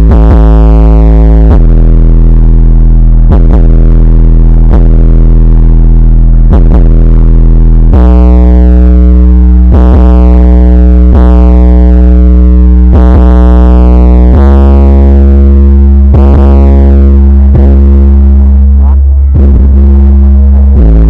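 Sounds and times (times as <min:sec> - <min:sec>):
distorted electronic dance music: 0:00.0 - 0:21.0.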